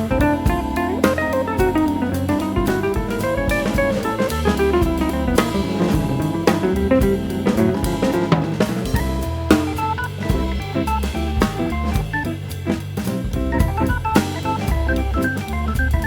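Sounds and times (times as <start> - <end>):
upbeat instrumental music: 0.0 - 16.0.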